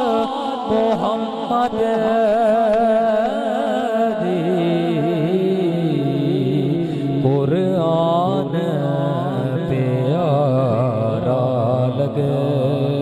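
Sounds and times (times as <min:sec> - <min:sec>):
person singing devotional song: 0:00.0 - 0:13.0.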